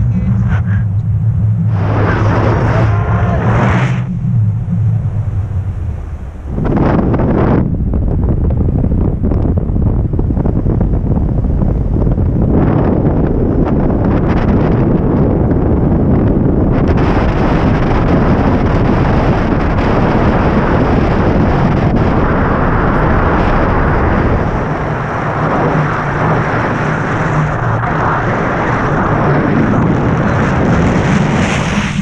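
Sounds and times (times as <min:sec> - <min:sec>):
loud wind rushing over microphone: 0:00.0 - 0:32.0.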